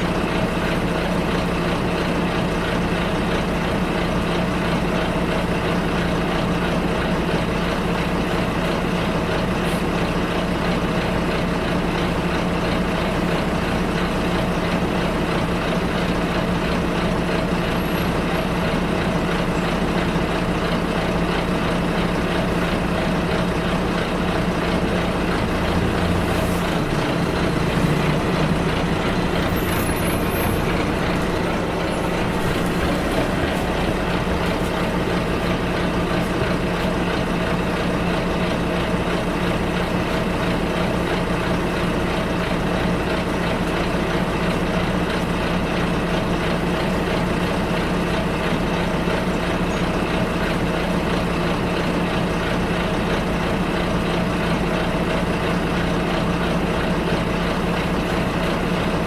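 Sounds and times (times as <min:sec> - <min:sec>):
bus engine running: 0:00.0 - 0:59.0
road noise rumble: 0:00.0 - 0:59.0.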